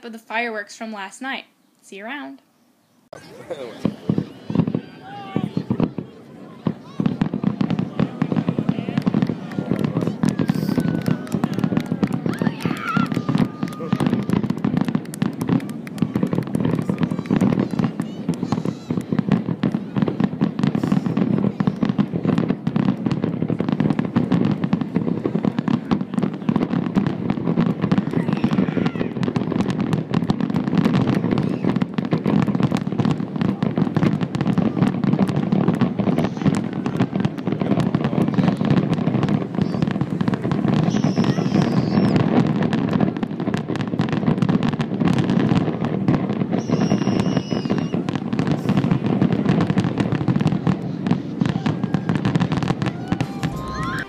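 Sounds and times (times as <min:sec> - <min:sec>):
fireworks bangs and crackles: 0:03.2 - 0:54.0.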